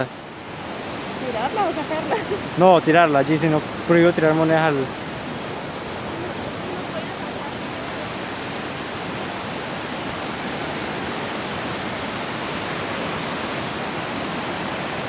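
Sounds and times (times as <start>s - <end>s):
rushing white water: 0.0s - 15.0s.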